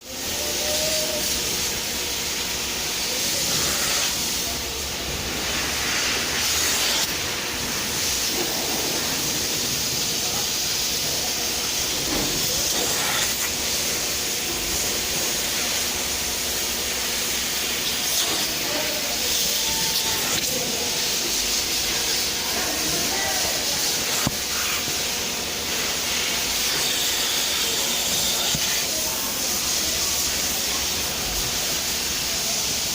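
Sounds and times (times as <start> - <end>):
steam cleaner hissing: 0.0 - 32.9.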